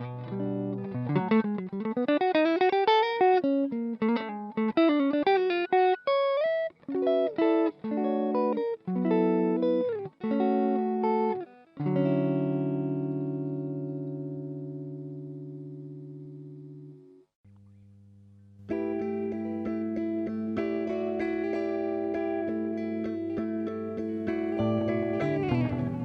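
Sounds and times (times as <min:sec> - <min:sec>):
blues guitar single notes: 0:00.0 - 0:17.9, 0:18.6 - 0:26.0
guitar chord ringing: 0:00.0 - 0:26.0.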